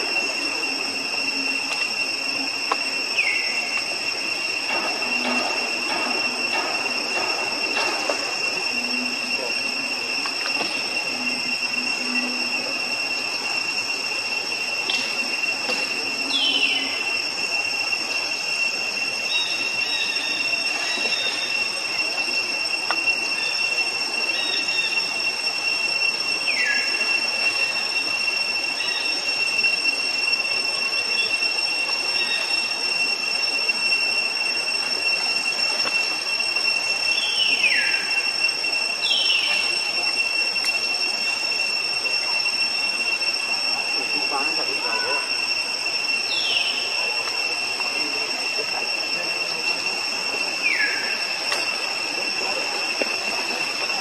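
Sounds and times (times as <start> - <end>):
falling whistled call: 0.0 - 54.0
insects droning: 0.0 - 54.0.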